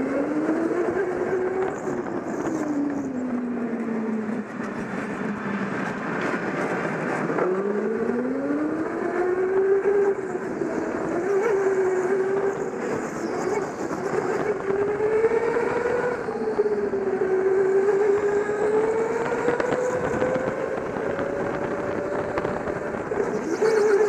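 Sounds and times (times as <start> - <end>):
go-kart motor: 0.0 - 24.0.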